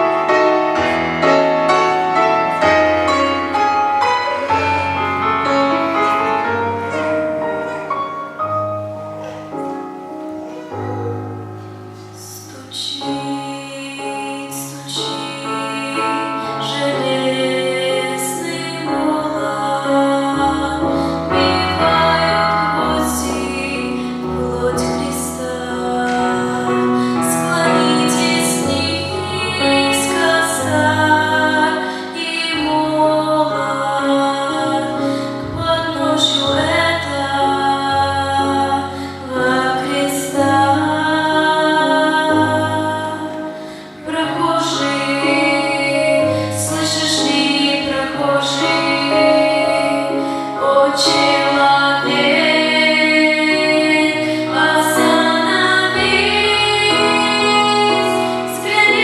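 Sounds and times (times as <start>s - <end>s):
women singing a church song: 0.0s - 9.3s, 10.7s - 59.0s
instrumental accompaniment: 0.0s - 59.0s.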